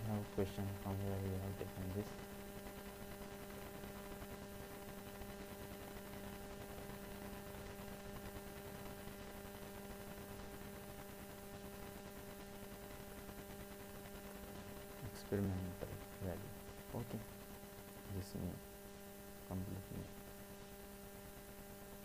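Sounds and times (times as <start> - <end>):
background hiss: 0.0 - 22.0
electrical hum: 0.0 - 22.0.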